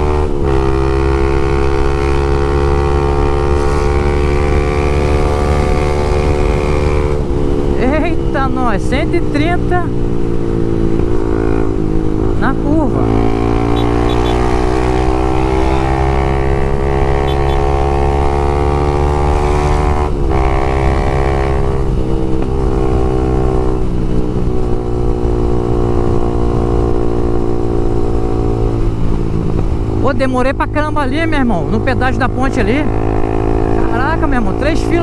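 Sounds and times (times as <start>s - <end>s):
motorcycle engine at high revs: 0.0s - 35.0s.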